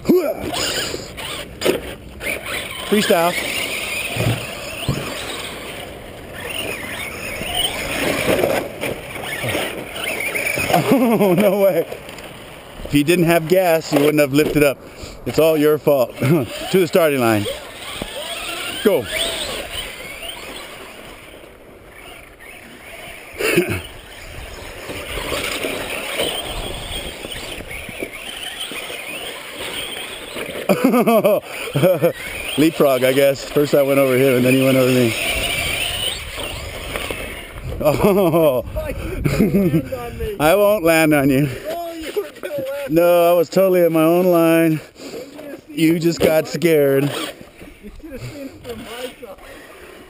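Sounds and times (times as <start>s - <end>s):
tires on dirt: 0.0s - 50.0s
toy truck motors whining: 0.0s - 50.0s.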